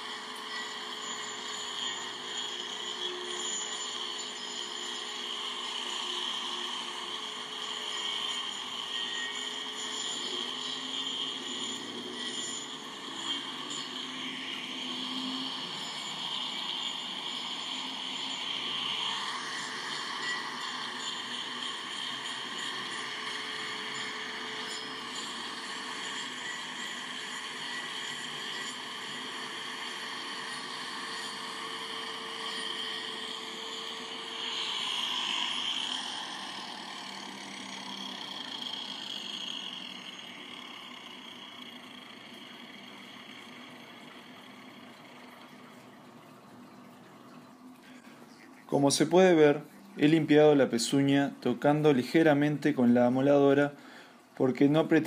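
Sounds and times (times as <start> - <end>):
angle grinder whining: 0.0 - 55.0.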